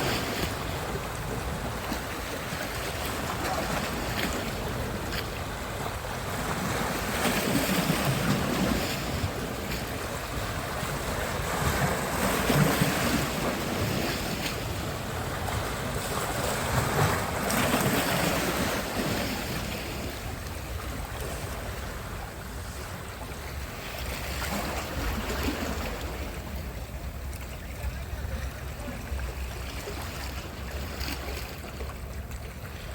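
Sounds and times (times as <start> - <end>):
waves breaking: 0.0 - 32.9.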